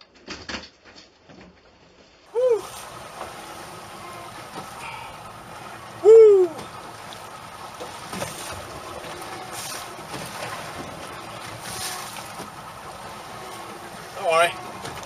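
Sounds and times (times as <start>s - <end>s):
wind: 0.0s - 15.0s
water noise: 2.2s - 15.0s
water swishes: 2.2s - 15.0s.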